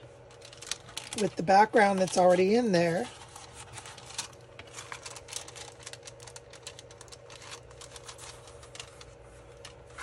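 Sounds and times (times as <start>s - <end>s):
paper and plastic crinkling: 0.0s - 10.0s.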